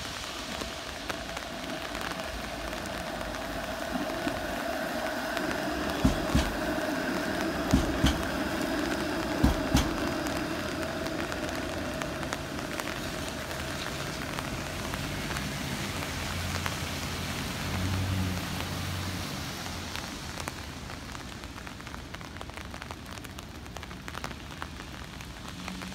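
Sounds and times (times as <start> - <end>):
heavy rain on pavement: 0.0 - 25.9.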